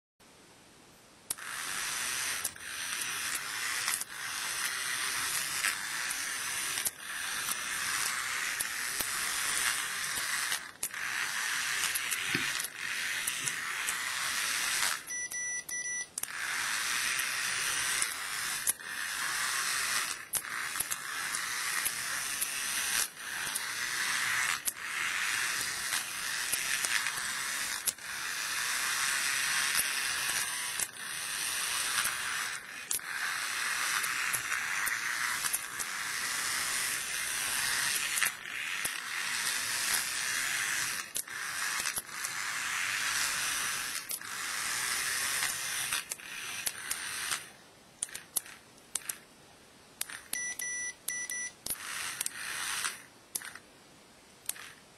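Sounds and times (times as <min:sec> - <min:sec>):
small motors whirring: 0:01.3 - 0:49.3, 0:50.0 - 0:53.6, 0:54.4 - 0:54.8.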